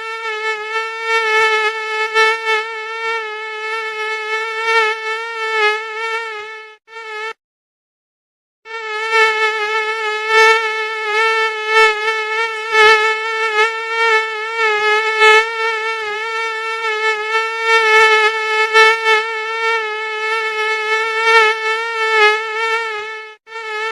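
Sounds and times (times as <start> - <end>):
mosquito whine: 0.0 - 7.4, 8.7 - 23.9.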